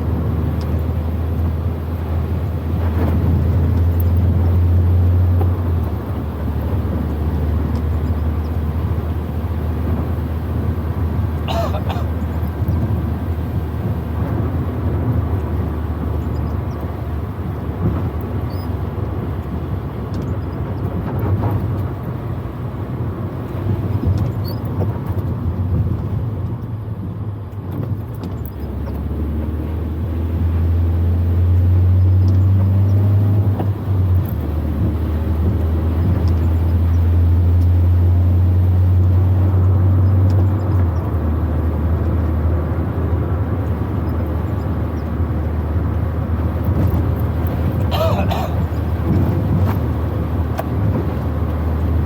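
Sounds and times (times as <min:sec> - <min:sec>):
car engine drone: 0:00.0 - 0:52.0
road noise: 0:00.0 - 0:52.0.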